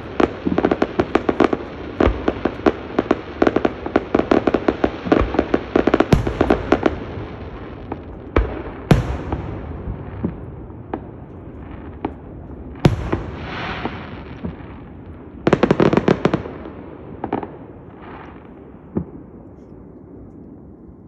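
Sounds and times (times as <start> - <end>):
firework crackling: 0.0 - 18.5
firework bangs: 0.0 - 19.3.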